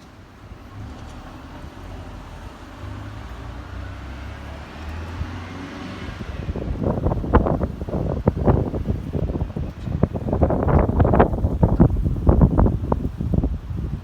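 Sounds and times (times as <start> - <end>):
low engine rumble: 0.0 - 14.0
traffic noise: 0.0 - 14.0.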